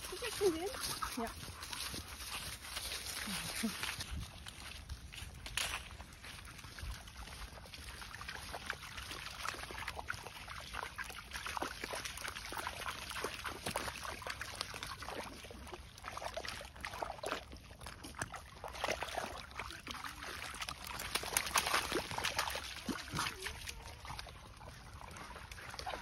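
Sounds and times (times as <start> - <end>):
dog splashing in muddy puddle: 0.0 - 26.0.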